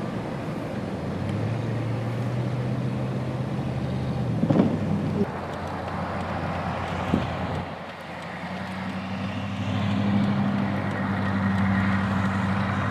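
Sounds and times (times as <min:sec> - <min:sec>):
noisy wash: 0:00.0 - 0:12.9
vehicle engine humming: 0:00.0 - 0:12.9.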